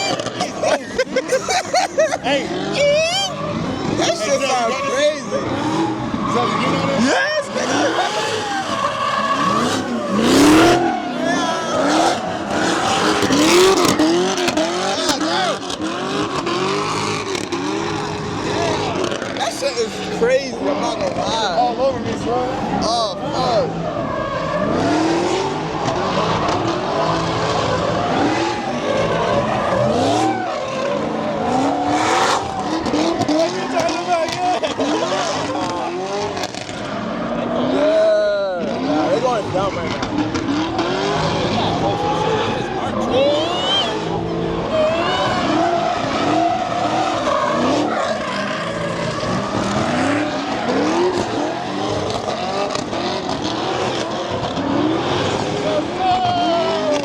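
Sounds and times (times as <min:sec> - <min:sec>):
car engine revving: 0:00.0 - 0:57.0
tires squealing: 0:00.0 - 0:57.0.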